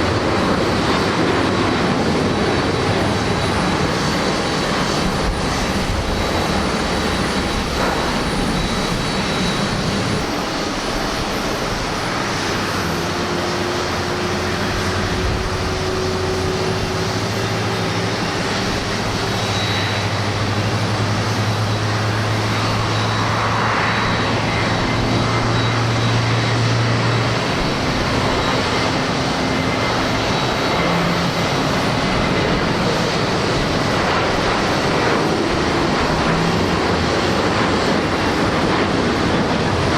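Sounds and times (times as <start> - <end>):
jet airliner engines roaring: 0.0 - 39.9.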